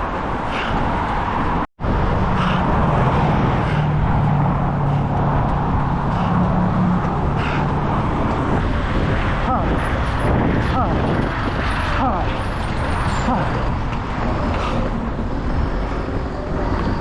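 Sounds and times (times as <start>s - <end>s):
road traffic rushing: 0.0s - 17.0s
vehicle engine humming: 0.0s - 17.0s.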